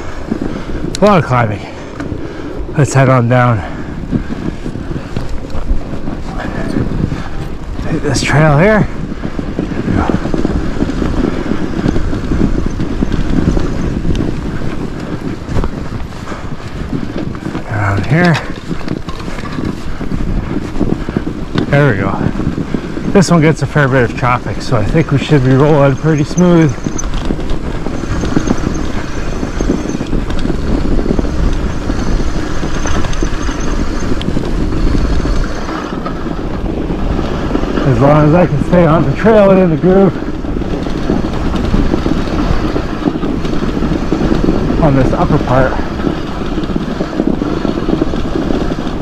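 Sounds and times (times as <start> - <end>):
bike tyres crunching through snow: 0.0 - 49.0
wind rumble on microphone: 0.0 - 49.0.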